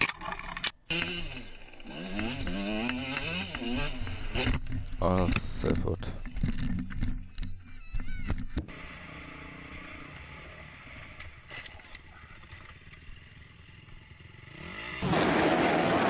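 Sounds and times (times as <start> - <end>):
dirt bike engine rumble: 0.0 - 16.0.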